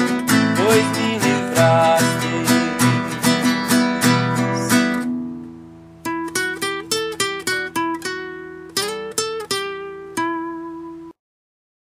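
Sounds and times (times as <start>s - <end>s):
acoustic guitar playing: 0.0s - 11.2s.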